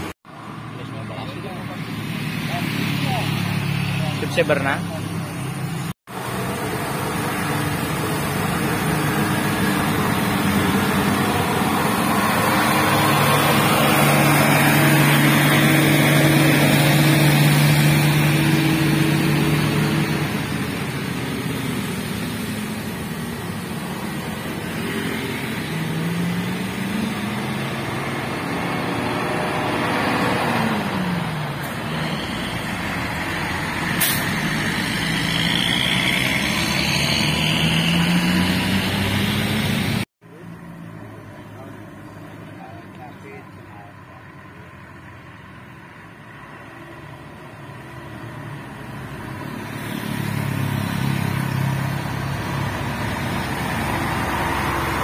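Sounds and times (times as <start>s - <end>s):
motorcycles passing: 0.0s - 45.0s, 47.2s - 55.0s
diesel engines climbing: 0.0s - 55.0s
small truck engine: 0.0s - 55.0s.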